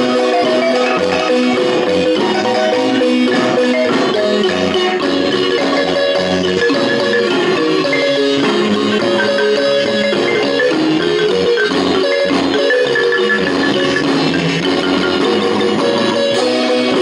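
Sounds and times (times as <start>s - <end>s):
marimba music: 0.0s - 17.0s.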